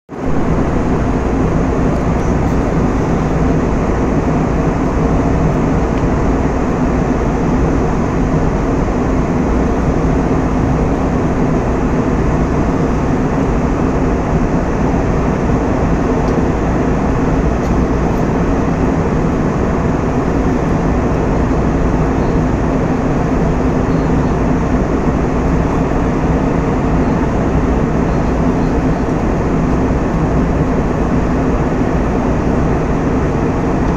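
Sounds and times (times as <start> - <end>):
airliner cabin noise: 0.1 - 33.9.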